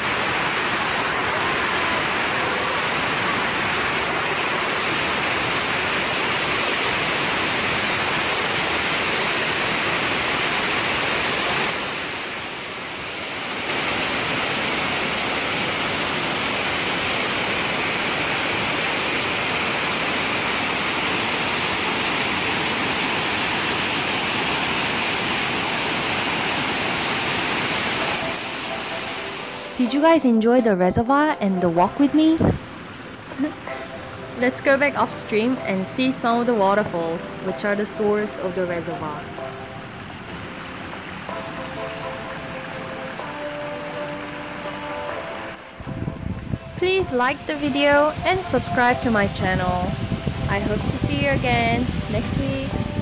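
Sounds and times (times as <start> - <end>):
water rushing over spillway: 0.0 - 53.0.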